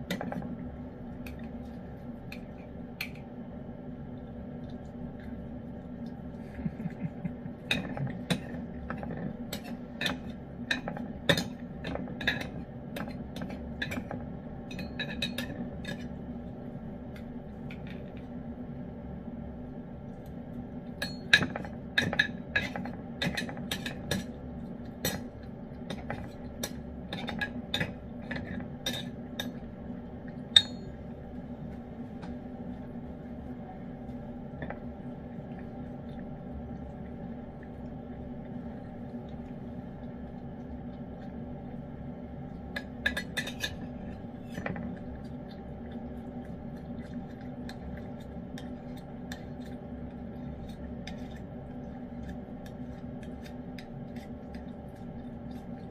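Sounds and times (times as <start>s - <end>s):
cat eating from spoon and dish: 0.0s - 18.5s, 20.0s - 55.9s.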